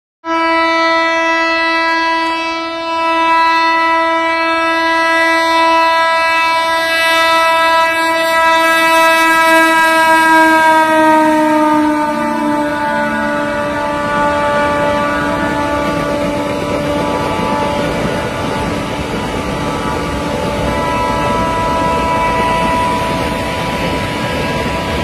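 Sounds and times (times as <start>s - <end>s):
train horn blast: 0.2s - 25.0s.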